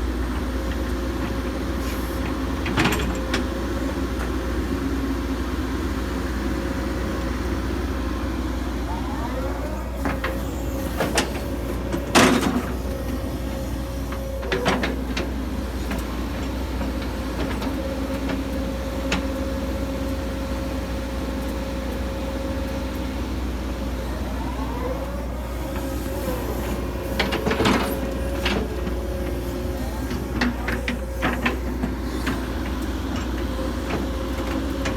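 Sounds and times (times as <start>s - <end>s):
excavator engine whining: 0.0s - 34.9s.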